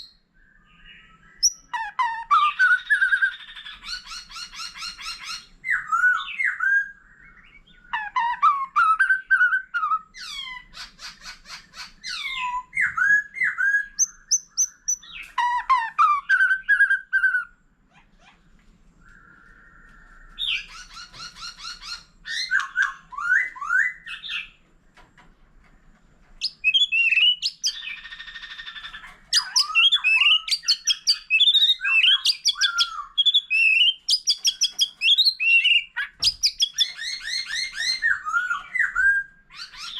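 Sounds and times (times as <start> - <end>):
bird singing whistled phrases: 0.0 - 10.5, 12.1 - 17.6, 19.0 - 24.5, 26.4 - 39.9.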